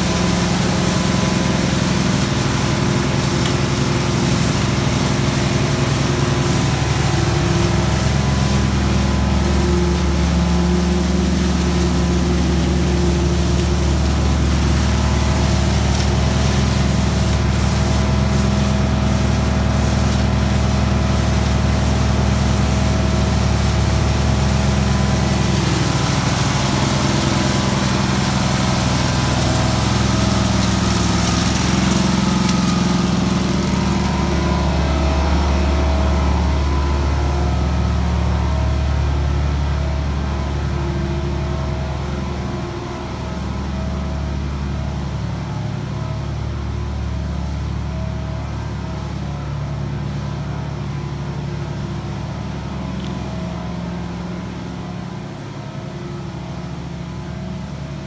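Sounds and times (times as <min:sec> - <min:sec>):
vacuum machine engine running: 0:00.0 - 0:57.9.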